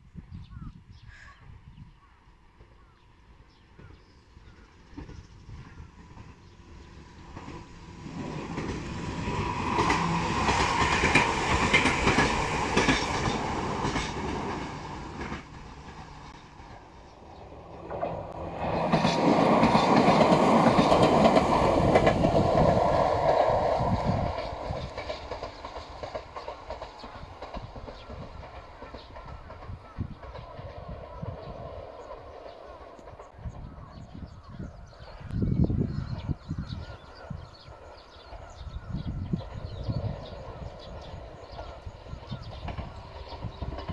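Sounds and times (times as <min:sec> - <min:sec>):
electric train passing: 0:02.3 - 0:43.9
wheels clacking over rail joints: 0:03.8 - 0:33.7, 0:37.7 - 0:43.9.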